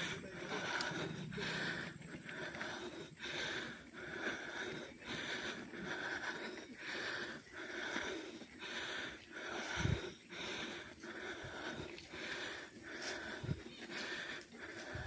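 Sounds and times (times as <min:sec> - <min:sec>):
man breathing hard: 0:00.0 - 0:15.0.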